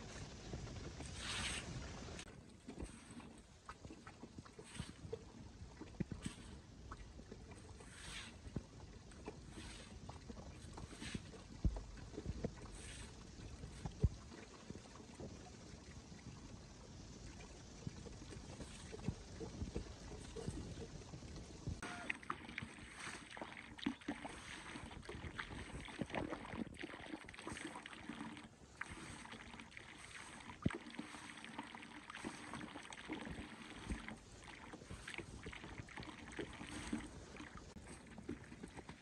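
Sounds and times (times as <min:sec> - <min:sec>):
pond water splashing: 0:00.0 - 0:39.0.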